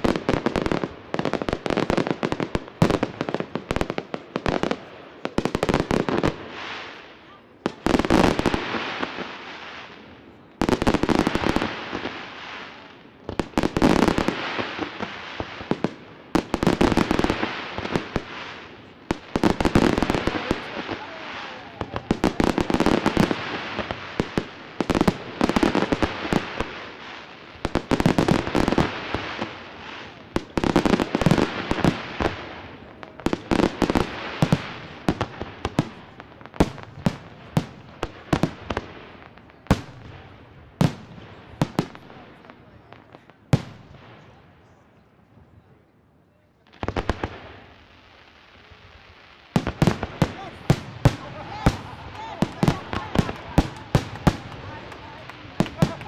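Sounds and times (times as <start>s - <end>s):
fireworks bursting and crackling: 0.0s - 44.8s, 46.6s - 56.0s.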